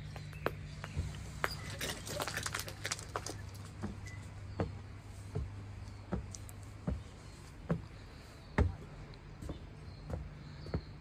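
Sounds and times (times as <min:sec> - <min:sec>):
footsteps on wooden decking: 0:00.0 - 0:11.0
steady low hum: 0:00.0 - 0:11.0.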